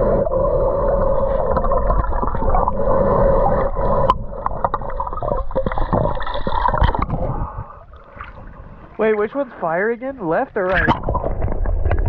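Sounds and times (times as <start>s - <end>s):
water gurgling and sloshing: 0.0s - 12.0s.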